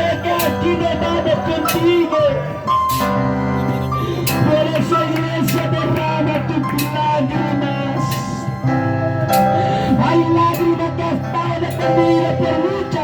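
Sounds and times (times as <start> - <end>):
bass line: 0.0 - 13.0
guitar: 0.0 - 13.0.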